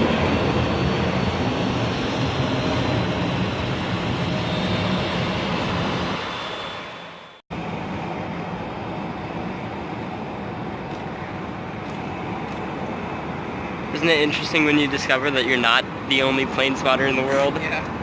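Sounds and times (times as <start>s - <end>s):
jet engine roar: 0.0s - 18.0s.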